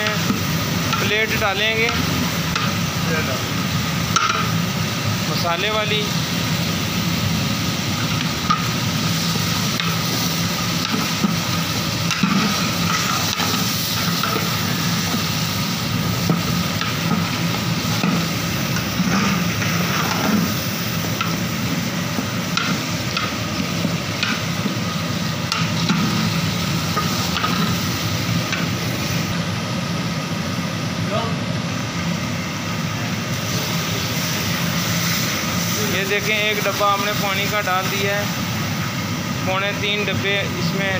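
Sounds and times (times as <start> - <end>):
chicken sizzling in hot oil: 0.0 - 31.0, 31.7 - 40.9.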